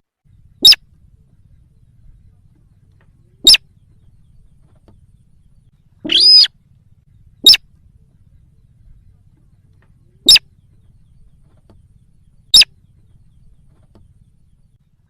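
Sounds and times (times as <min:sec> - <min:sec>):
bird calling: 0:00.0 - 0:15.0
faint low hum: 0:00.0 - 0:15.0.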